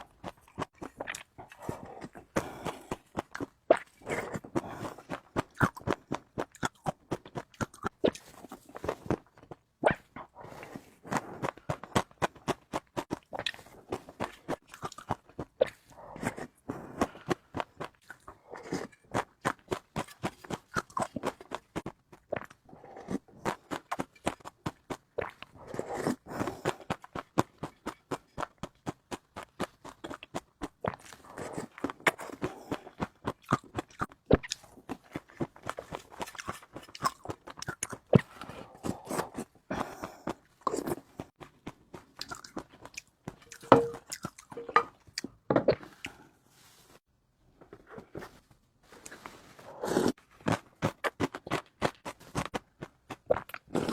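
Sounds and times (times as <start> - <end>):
chewing crunchy food: 0.0 - 46.3, 48.9 - 53.9.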